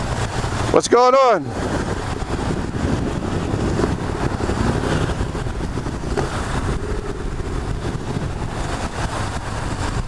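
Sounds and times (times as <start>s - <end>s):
heavy rain: 0.0s - 10.0s
storm wind on microphone: 0.0s - 10.0s.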